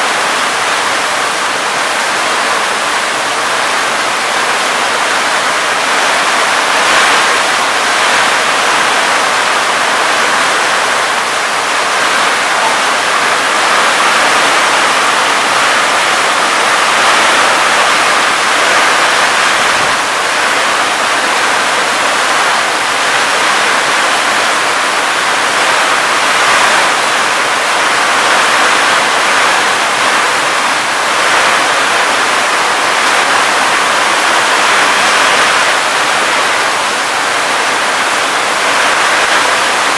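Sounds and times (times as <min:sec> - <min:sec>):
heavy rain on corrugated roofs: 0:00.0 - 0:39.9.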